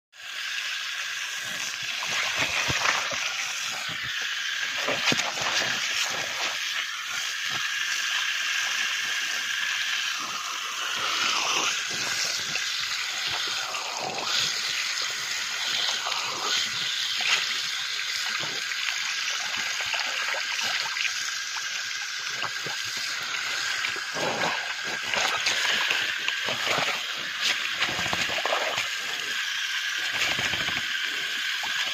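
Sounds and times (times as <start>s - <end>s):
hose water spraying and splashing: 0.2s - 31.9s.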